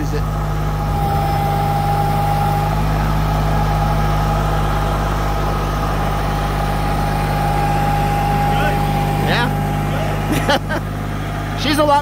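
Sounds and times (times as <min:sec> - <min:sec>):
high engine whine: 0:00.0 - 0:12.0
tractor diesel engine running: 0:00.0 - 0:12.0.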